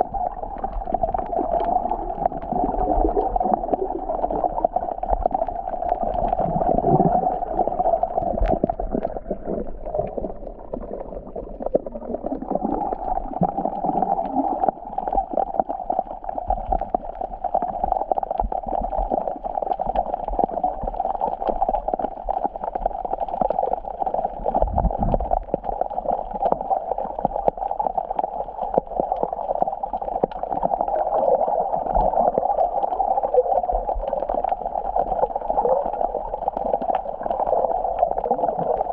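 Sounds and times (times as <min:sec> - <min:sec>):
sea water sloshing and gurgling: 0:00.0 - 0:38.9.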